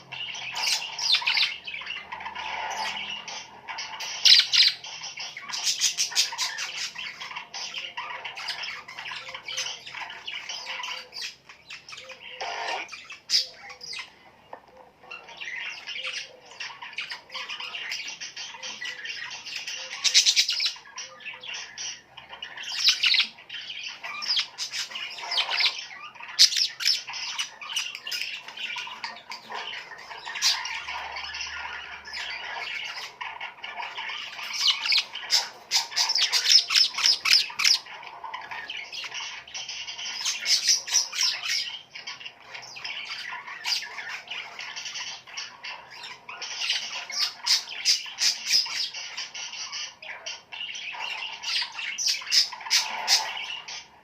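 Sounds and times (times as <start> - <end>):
small birds chattering: 0.0 - 54.0.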